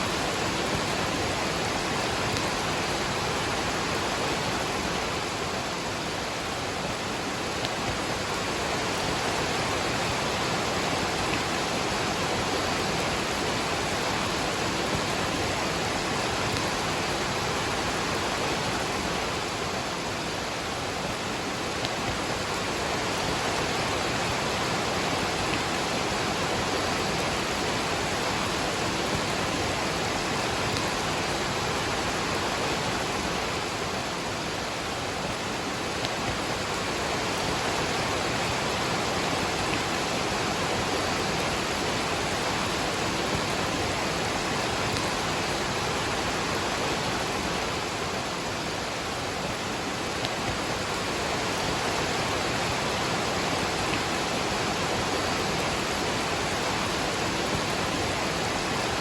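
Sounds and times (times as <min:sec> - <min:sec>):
rush of falling water: 0:00.0 - 0:59.0.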